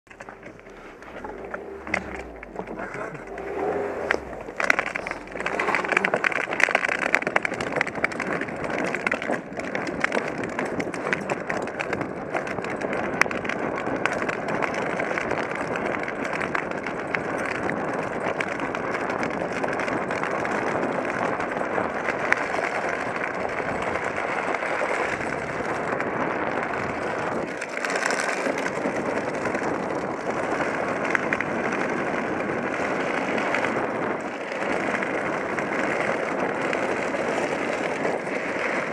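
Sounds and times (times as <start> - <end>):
hard wheels rolling over asphalt: 0.0 - 38.9
wind on microphone: 0.1 - 38.9.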